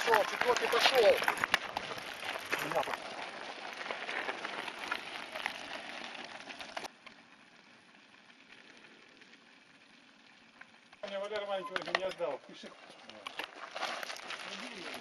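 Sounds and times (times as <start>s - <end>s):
bike tyres crunching on gravel: 0.0s - 15.0s.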